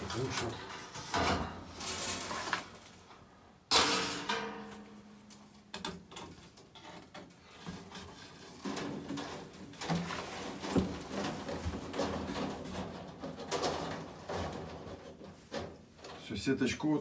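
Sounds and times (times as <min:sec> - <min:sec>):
plastic mesh scraping and rustling: 0:00.0 - 0:03.3, 0:05.8 - 0:17.0.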